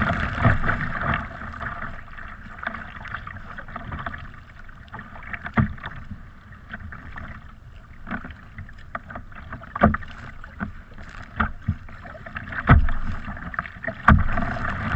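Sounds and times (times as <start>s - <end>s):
steady wash of water: 0.0s - 14.9s
waves slapping a kayak hull: 0.0s - 14.9s.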